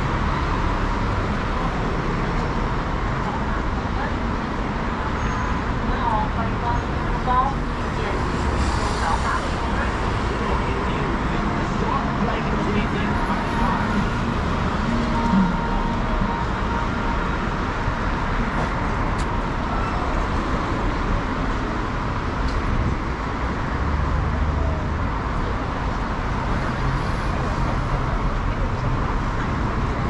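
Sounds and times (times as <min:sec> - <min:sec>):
cars and buses passing: 0:00.0 - 0:30.0
low traffic rumble: 0:00.0 - 0:30.0.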